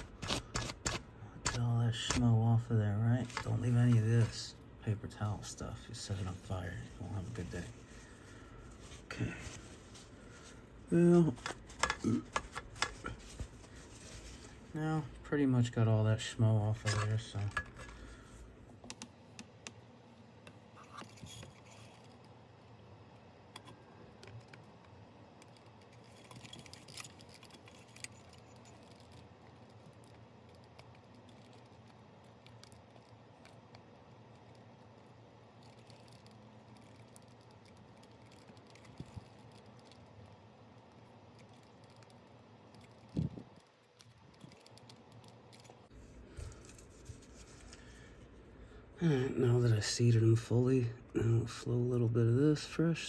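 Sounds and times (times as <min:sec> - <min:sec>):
low steady hiss: 0:00.0 - 0:53.0.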